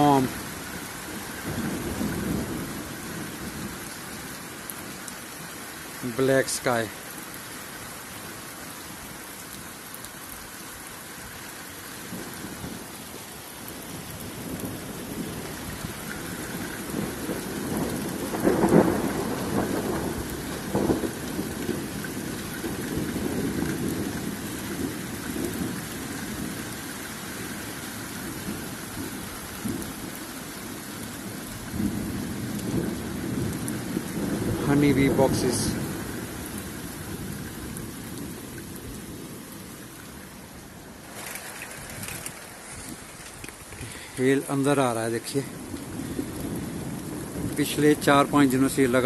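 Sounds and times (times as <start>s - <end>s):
thunder rumbling: 0.0s - 5.0s, 13.7s - 49.0s
heavy rain and hail: 0.0s - 49.0s.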